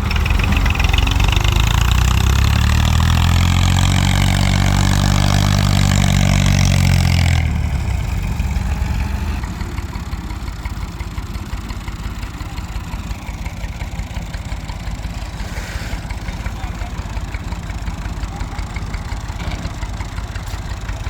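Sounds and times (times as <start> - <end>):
tractor diesel engine: 0.0 - 21.0.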